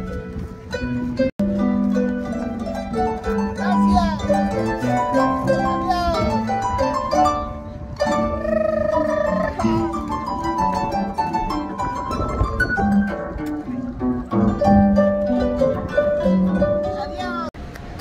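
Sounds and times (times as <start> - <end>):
harp plucked melody: 0.0 - 17.5.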